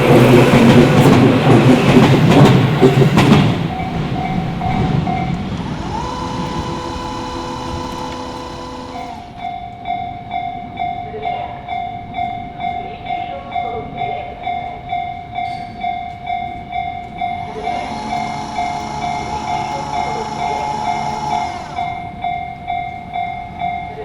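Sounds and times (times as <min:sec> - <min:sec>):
level crossing bell clanging: 0:00.0 - 0:24.0
train rumble: 0:00.0 - 0:24.0.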